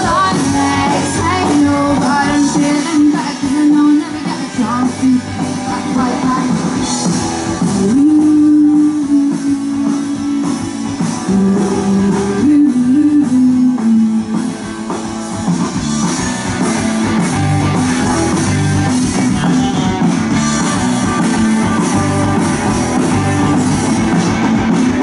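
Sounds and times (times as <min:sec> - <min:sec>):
indie pop band playing: 0:00.0 - 0:25.0.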